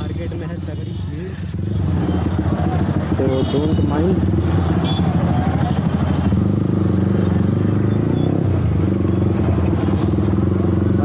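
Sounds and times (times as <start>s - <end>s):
street traffic noise: 0.0s - 11.0s
motorcycle engine running: 1.4s - 11.0s.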